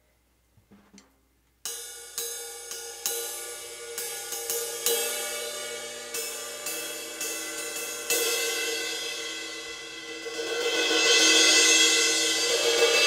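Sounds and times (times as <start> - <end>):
crash cymbal struck with drumstick: 1.7 - 13.0.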